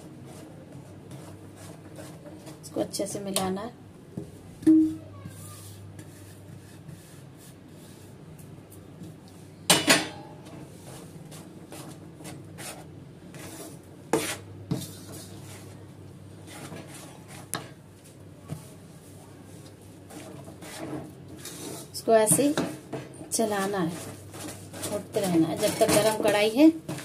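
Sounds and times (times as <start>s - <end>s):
spoon stirring and scraping: 0.0s - 3.6s, 4.3s - 8.2s, 10.6s - 27.0s.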